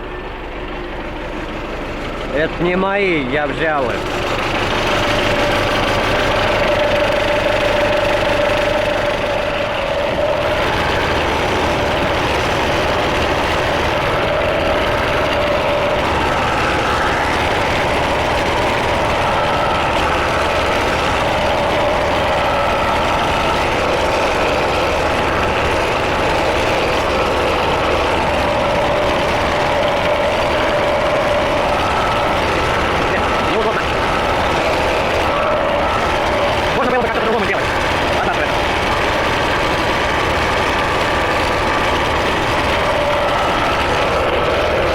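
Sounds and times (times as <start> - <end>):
tractor engine running: 0.0 - 44.9
whining tone shifting pitch: 0.0 - 44.9.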